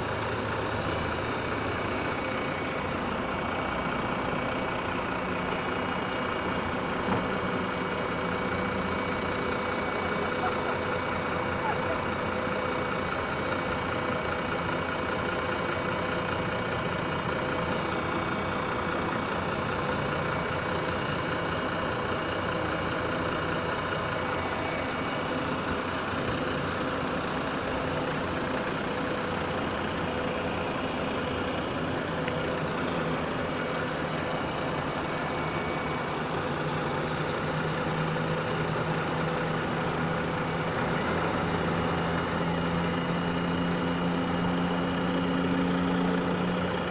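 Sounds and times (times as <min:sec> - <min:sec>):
bus diesel engines idling: 0:00.0 - 0:46.9.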